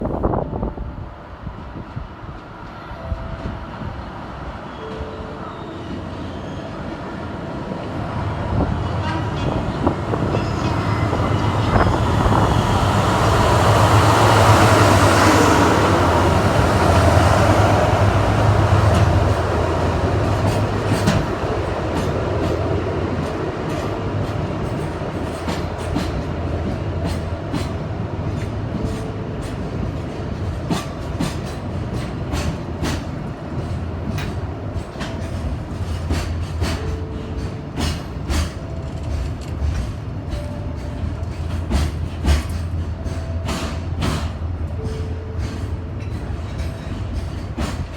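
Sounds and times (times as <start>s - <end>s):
locomotive low hum: 0.0s - 47.9s
train wagons rumbling: 0.0s - 47.9s.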